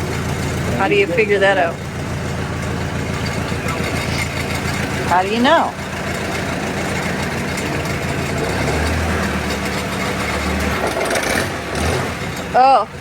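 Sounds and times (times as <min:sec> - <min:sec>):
hydraulic deep hum: 0:00.0 - 0:13.0
small gas engine running: 0:00.0 - 0:13.0.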